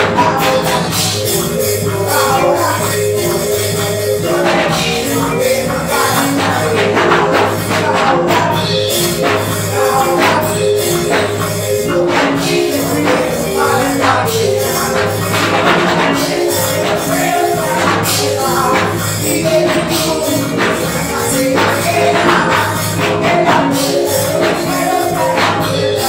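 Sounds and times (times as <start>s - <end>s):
drum kit: 0.0s - 26.0s
electric keyboard chords: 0.0s - 26.0s
jingling percussion: 0.0s - 26.0s
pulsing bass line: 0.0s - 26.0s.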